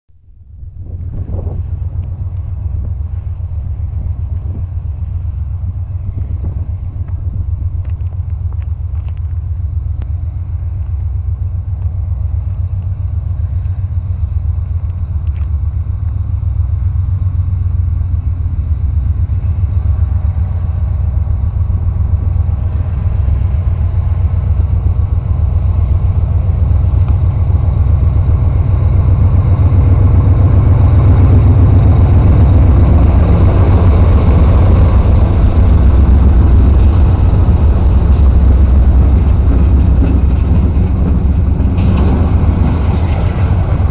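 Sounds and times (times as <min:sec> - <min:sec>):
diesel locomotive engines rumbling: 0:00.1 - 0:43.9.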